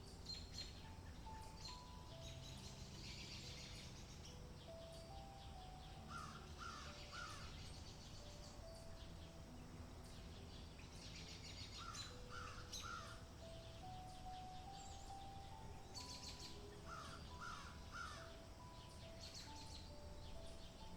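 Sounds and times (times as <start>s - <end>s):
bird calls: 0.0s - 20.9s
faint outdoor hiss: 0.0s - 20.9s
soft background music: 0.0s - 20.9s.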